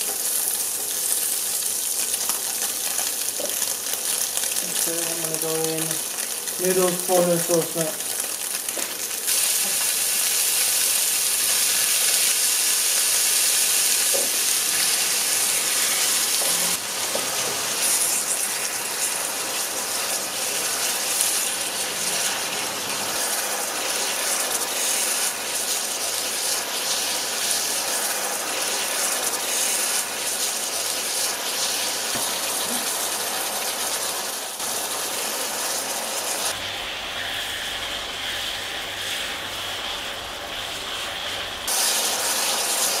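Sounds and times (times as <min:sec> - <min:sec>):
noodles sizzling in a frying pan: 0:00.0 - 0:43.0.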